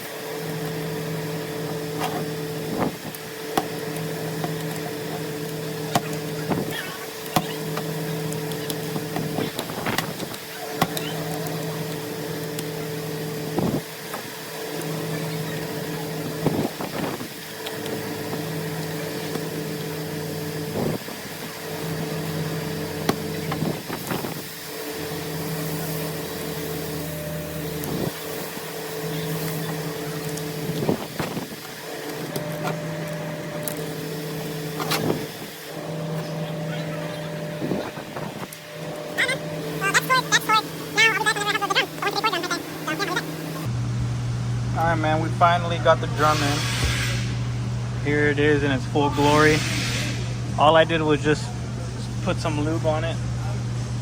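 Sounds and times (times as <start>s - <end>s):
pulsing machine hum: 0.0s - 50.6s.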